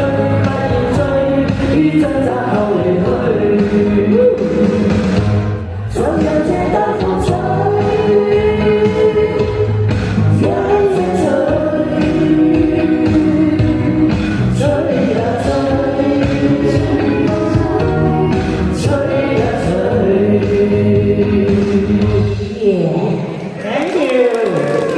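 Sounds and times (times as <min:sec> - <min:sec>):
pop song with singing: 0:00.0 - 0:24.9.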